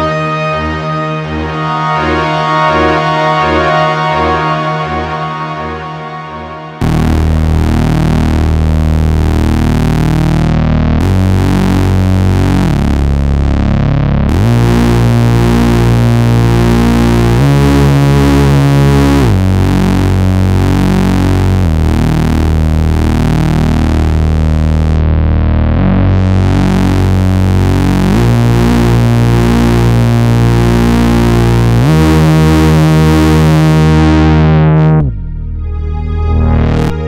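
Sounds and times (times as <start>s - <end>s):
deep synth bass: 0.0s - 37.0s
synthesizer detuned chords: 0.0s - 37.0s.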